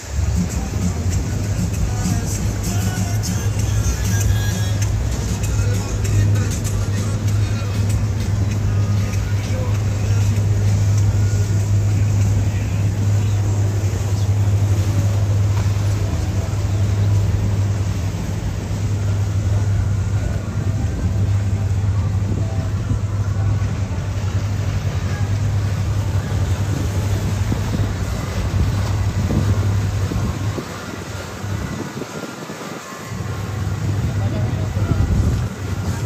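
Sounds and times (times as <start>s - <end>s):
motorboat engine running: 0.0s - 36.0s
water noise: 0.0s - 36.0s
wind: 0.0s - 36.0s.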